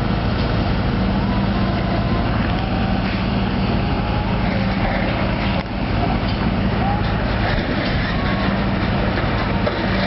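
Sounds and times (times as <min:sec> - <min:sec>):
heavy machine engine droning: 0:00.0 - 0:10.0.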